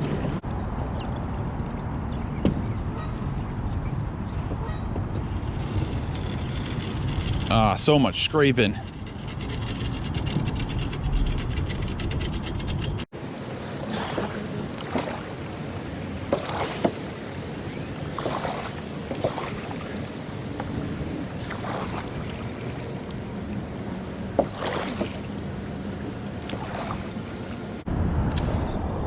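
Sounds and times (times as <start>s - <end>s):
water noise: 0.0s - 27.9s
wind: 0.0s - 29.0s.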